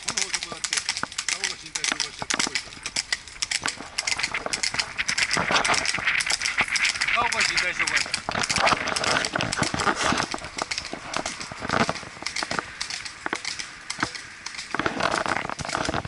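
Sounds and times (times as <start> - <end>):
horse hooves on paved road: 0.0 - 16.0.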